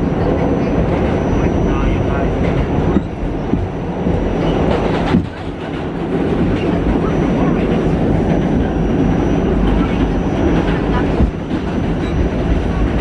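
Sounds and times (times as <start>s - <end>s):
subway wheels rolling on rail: 0.0s - 13.0s.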